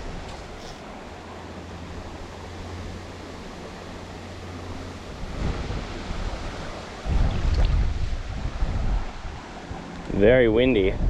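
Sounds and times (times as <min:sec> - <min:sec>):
stream water rushing: 0:00.0 - 0:10.9
wind buffeting microphone: 0:01.7 - 0:11.0.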